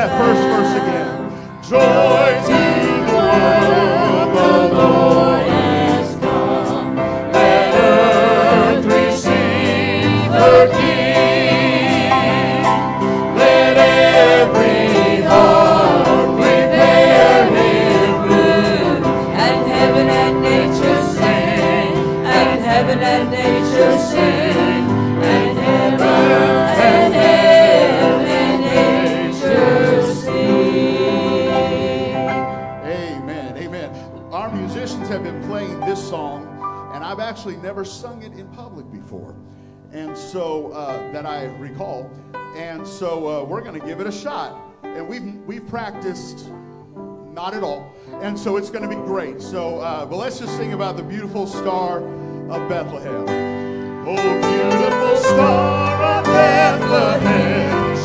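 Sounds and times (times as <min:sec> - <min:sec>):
instrumental accompaniment: 0:00.0 - 0:40.3, 0:46.4 - 0:58.0
choir singing a hymn: 0:00.0 - 0:58.0.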